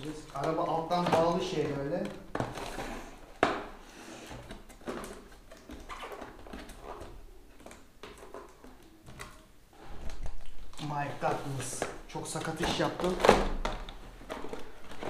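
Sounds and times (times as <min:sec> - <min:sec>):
cardboard rustling and scraping: 0:00.0 - 0:15.0.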